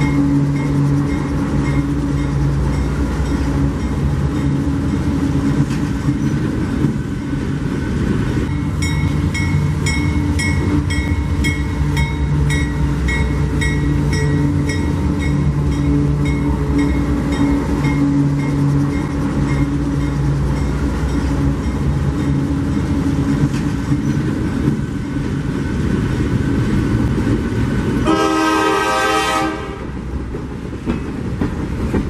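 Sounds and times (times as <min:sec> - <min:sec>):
diesel locomotives running: 0:00.0 - 0:32.0.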